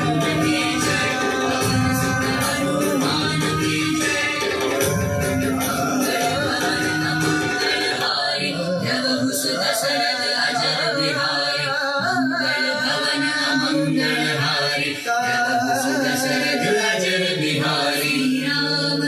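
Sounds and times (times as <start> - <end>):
person singing devotional song: 0.0 - 19.0.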